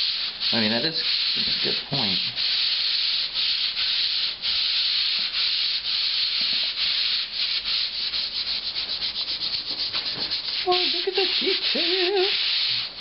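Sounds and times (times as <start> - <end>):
sanding pad rasping on drywall: 0.0 - 13.0.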